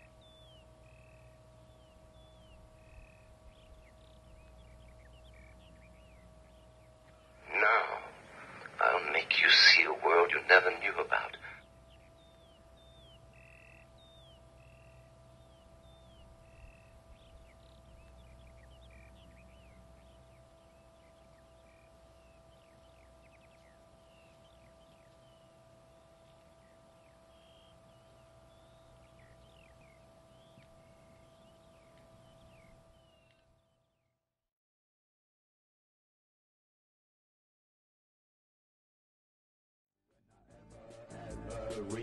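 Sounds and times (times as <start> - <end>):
low wind rumble: 0.0 - 33.7
birds chirping: 0.0 - 34.1
faint hum: 0.0 - 34.1, 40.3 - 42.0.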